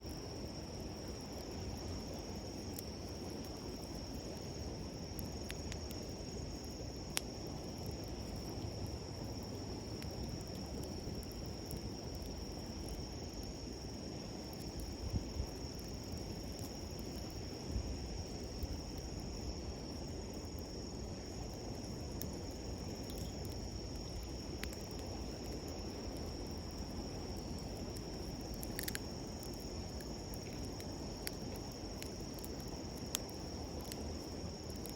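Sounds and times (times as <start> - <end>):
campfire crackling: 0.0 - 34.9
insects trilling: 0.0 - 34.9.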